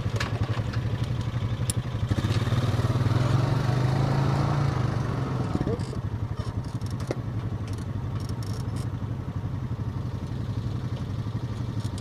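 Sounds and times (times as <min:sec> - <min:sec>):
off-road bike engine running: 0:00.0 - 0:12.0.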